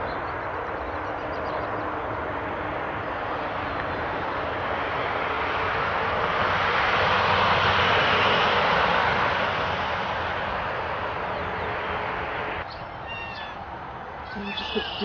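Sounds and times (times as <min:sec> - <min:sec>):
aircraft passing overhead: 0:00.0 - 0:15.0.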